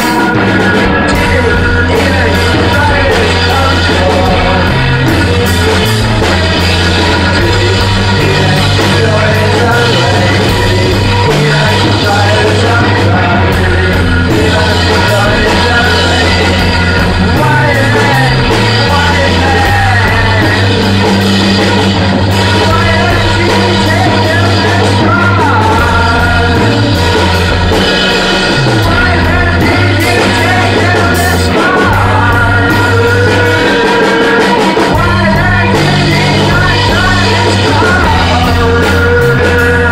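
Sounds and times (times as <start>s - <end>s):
drums: 0.0s - 39.9s
person singing through rotating speaker: 0.0s - 39.9s.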